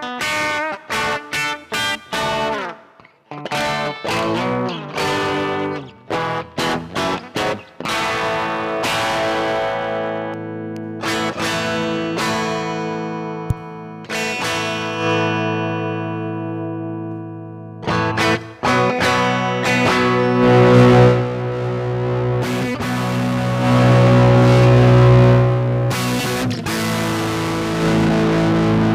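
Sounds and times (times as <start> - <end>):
electric guitar chords: 0.0 - 28.9.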